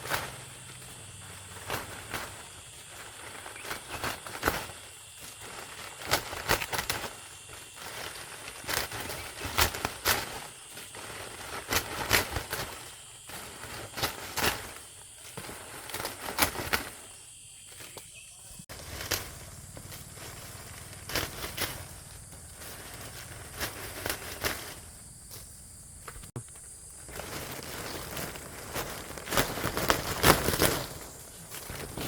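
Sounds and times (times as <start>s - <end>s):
dry palm leaves rustling: 0.0s - 32.0s.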